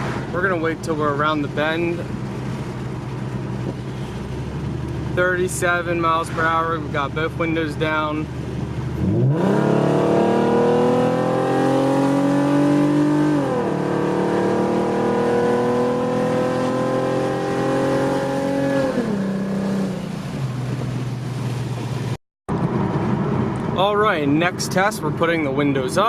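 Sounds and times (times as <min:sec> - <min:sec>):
car exhaust accelerating: 0:00.0 - 0:26.0.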